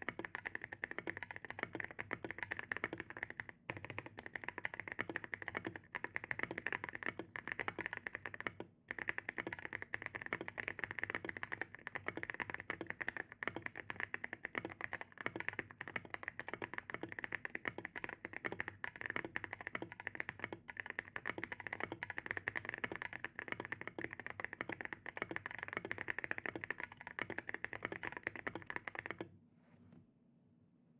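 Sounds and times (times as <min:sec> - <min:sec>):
mechanical keyboard typing: 0:00.0 - 0:29.3.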